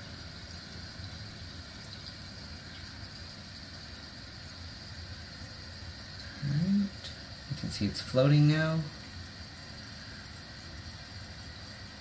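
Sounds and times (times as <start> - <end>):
water rushing into toilet tank: 0.0 - 12.0.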